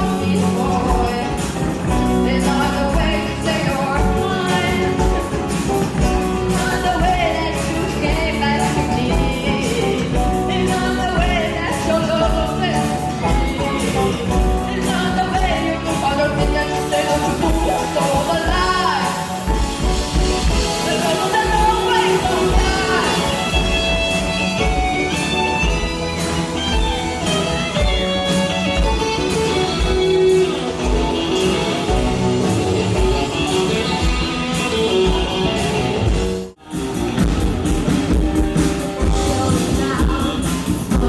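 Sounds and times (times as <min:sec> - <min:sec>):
band music with singing and guitar: 0:00.0 - 0:41.0.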